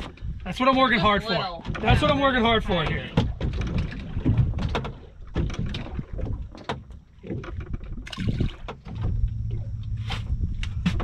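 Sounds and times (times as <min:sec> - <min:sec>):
small waves lapping against boat hull: 0:00.0 - 0:11.0.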